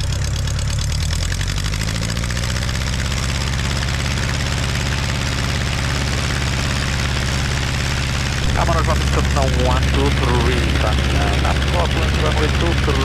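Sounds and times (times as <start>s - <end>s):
propeller plane engine: 0.0s - 13.0s.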